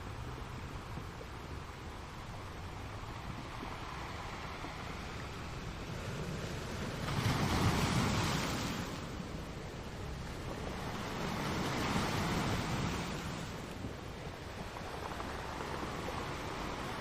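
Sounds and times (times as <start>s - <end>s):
wind: 0.0s - 17.0s
sea waves washing: 0.7s - 17.0s.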